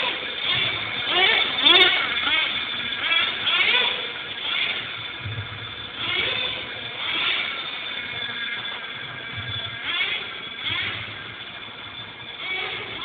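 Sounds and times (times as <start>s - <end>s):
rc car motor revving whine: 0.0s - 13.0s.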